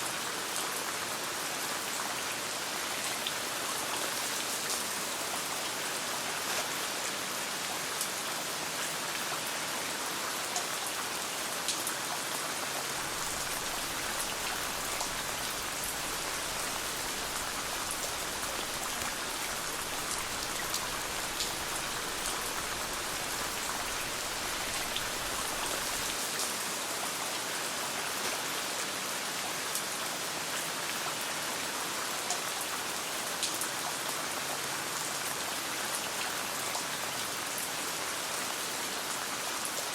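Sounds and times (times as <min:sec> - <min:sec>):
rain pattering on a tent: 0:00.0 - 0:39.9.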